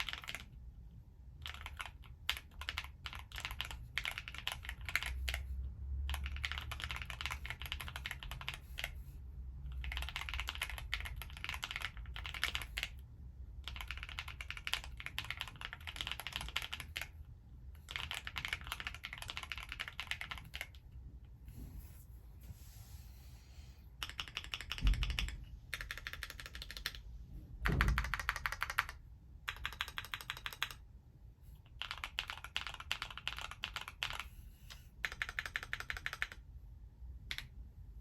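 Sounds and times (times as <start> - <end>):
mechanical keyboard typing: 0.0 - 0.6, 1.3 - 9.0, 9.6 - 21.0, 24.0 - 27.0, 27.6 - 30.9, 31.6 - 36.5, 37.2 - 37.6.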